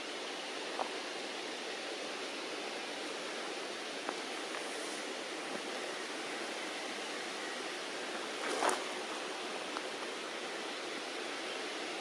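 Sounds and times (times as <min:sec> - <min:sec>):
outdoor background hiss: 0:00.0 - 0:12.0
rustle: 0:00.0 - 0:12.0.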